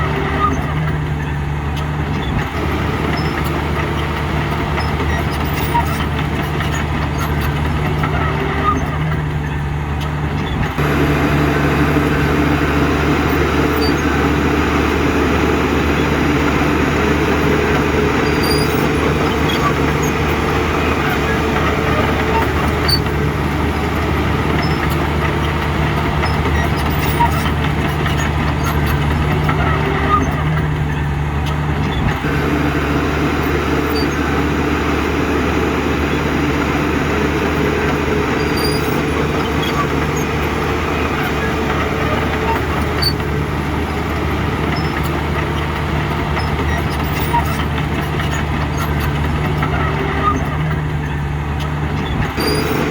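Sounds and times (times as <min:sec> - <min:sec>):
heavy diesel engine running: 0:00.0 - 0:52.9
rumbling mechanical noise: 0:00.0 - 0:52.9.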